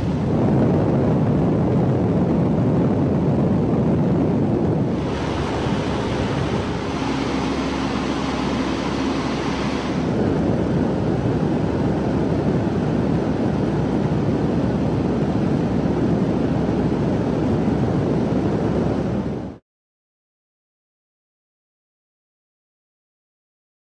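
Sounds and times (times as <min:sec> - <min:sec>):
strong wind buffeting microphone: 0:00.0 - 0:19.6.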